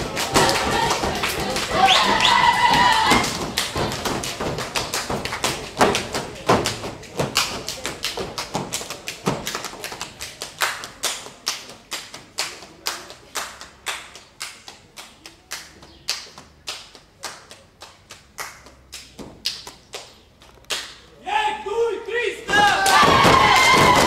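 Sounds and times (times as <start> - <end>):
hand clapping in rhythm: 0.0 - 21.1, 22.5 - 24.0.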